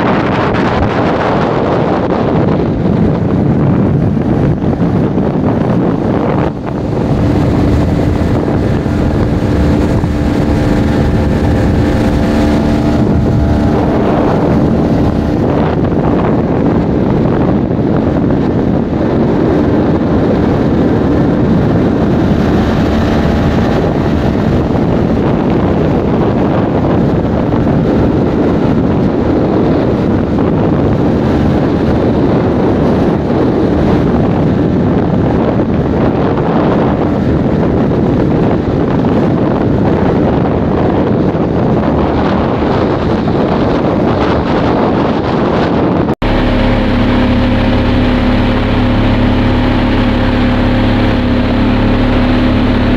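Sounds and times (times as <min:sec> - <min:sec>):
speedboat engine running: 0:00.0 - 0:52.9
wind buffeting microphone: 0:00.0 - 0:52.9.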